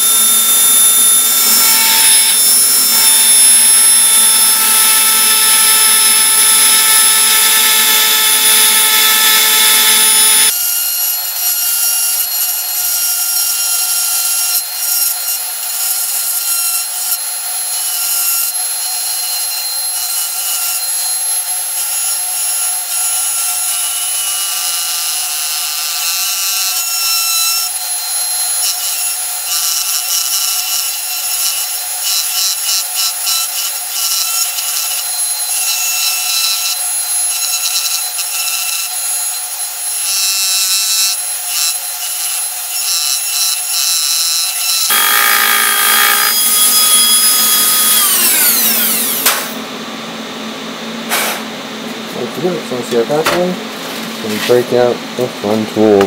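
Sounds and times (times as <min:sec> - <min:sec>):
rotary tool grinding metal: 0:00.0 - 0:49.6.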